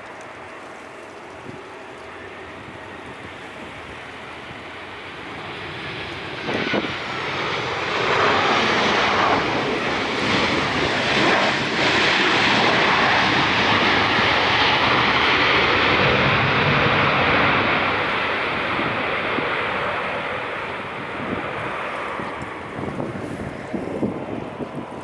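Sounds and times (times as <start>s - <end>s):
airliner engines rushing: 0.0s - 25.0s.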